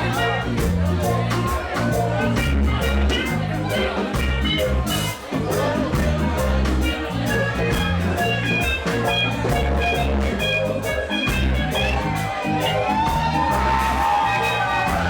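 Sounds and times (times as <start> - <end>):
bass line: 0.0 - 15.0
guitar: 0.0 - 15.0
steady drum beat: 0.0 - 15.0.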